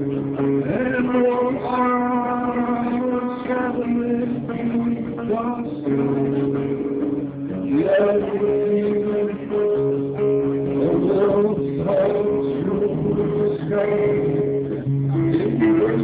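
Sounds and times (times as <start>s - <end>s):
guitar playing: 0.0s - 16.0s
man singing into a microphone: 0.0s - 16.0s.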